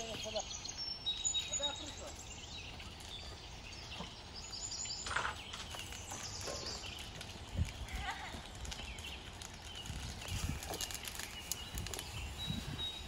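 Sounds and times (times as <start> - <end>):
outdoor ambience: 0.0 - 13.0
small birds chirping: 0.0 - 13.0.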